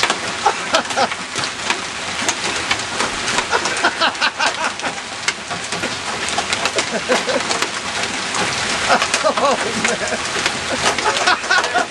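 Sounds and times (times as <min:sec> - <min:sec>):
hail and heavy rain pelting: 0:00.0 - 0:11.9.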